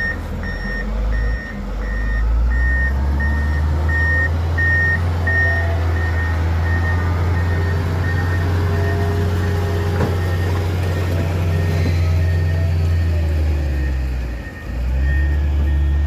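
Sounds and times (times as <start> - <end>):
truck reversing alarm beeping: 0.0 - 16.0.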